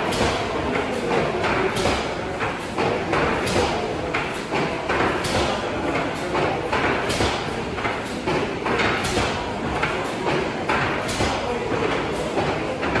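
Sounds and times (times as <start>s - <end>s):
steady mechanical noise: 0.0s - 13.0s.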